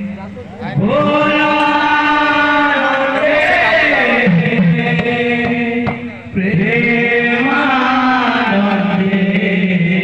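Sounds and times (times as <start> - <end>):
men singing a chant over loudspeakers: 0.0 - 10.0.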